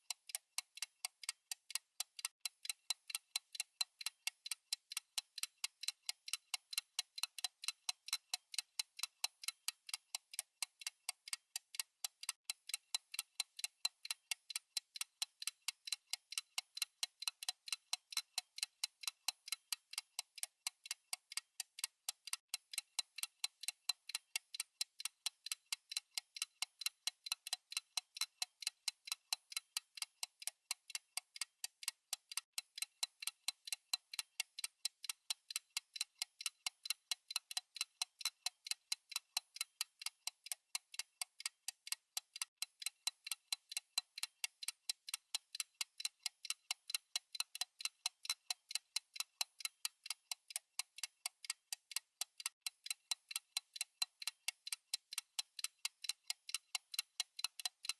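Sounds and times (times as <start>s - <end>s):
fast clock ticking: 0.0s - 57.9s.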